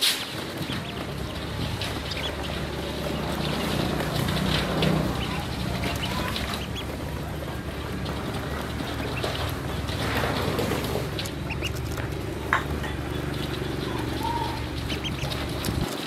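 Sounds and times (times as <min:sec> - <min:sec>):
ducklings pecking in plastic tub: 0:00.0 - 0:16.0
ducklings peeping: 0:00.0 - 0:16.0
steady low rumble: 0:00.3 - 0:16.0.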